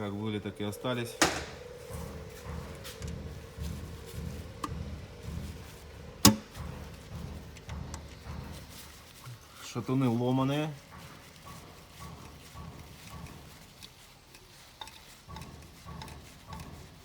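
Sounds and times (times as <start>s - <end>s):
faint low rhythmic pulsing: 0.0s - 17.0s.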